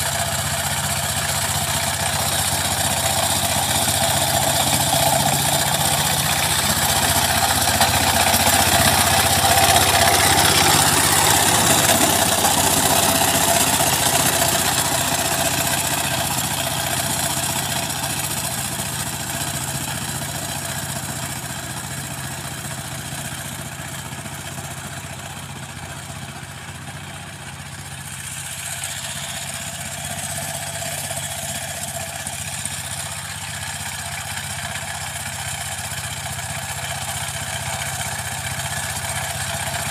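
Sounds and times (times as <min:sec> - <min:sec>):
diesel engine running: 0:00.0 - 0:39.9
rotary tiller churning soil: 0:00.0 - 0:39.9.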